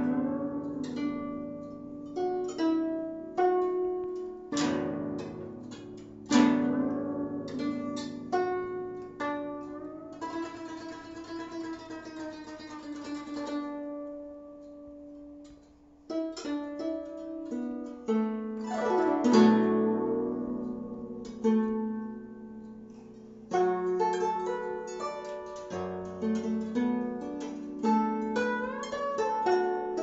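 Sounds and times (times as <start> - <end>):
plucked zither notes: 0.0 - 30.0.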